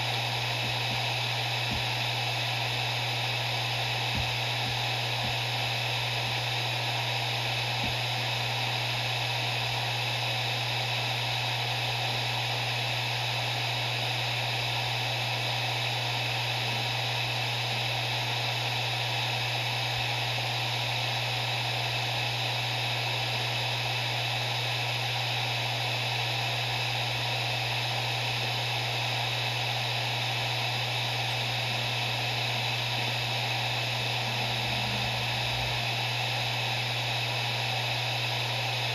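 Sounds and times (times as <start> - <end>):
hard drive spinning: 0.0 - 38.9.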